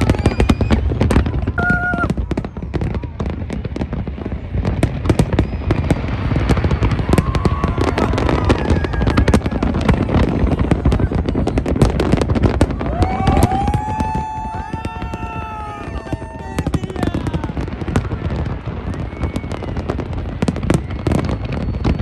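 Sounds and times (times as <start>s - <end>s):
fireworks barrage of bangs: 0.0s - 22.0s.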